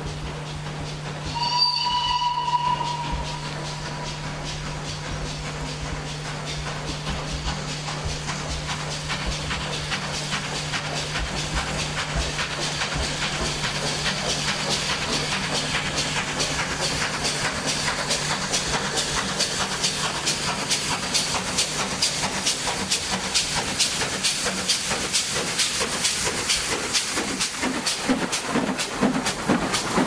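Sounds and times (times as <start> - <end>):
steam hissing: 0.0 - 30.0
steam locomotive chuffing: 0.0 - 30.0.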